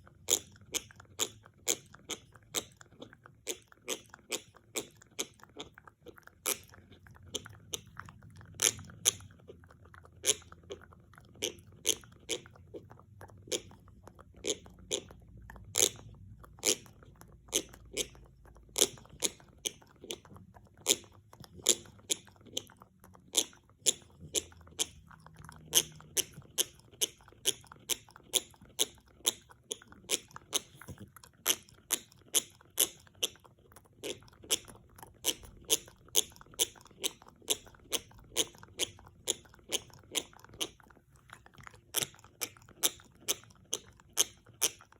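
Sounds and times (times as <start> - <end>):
dog gnawing an antler: 0.0 - 44.9.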